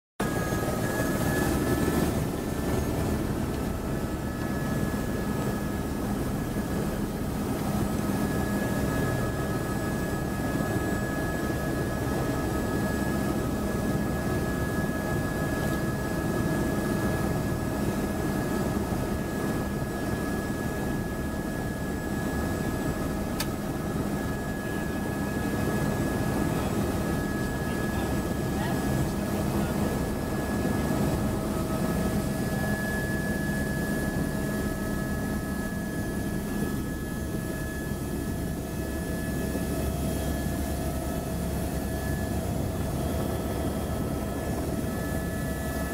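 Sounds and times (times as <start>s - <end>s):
helicopter rotor noise: 0.2s - 45.9s
steady high whine: 0.2s - 45.9s.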